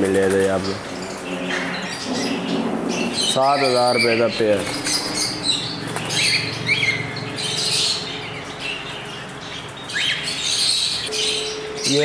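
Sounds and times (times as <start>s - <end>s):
birds chirping and squawking: 0.0s - 12.0s
steady low hum: 0.0s - 12.0s.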